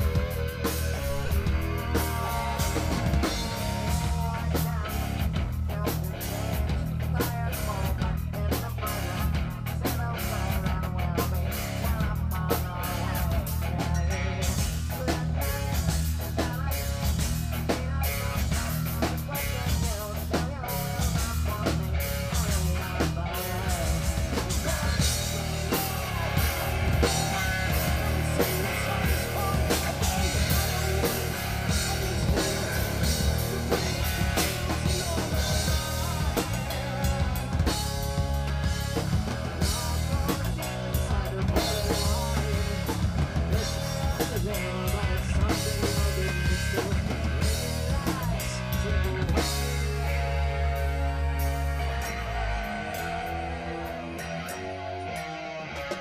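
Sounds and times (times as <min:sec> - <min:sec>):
amplified electric guitar: 0:00.0 - 0:56.0
pounding drum kit: 0:00.0 - 0:56.0
rock band playing: 0:00.0 - 0:56.0.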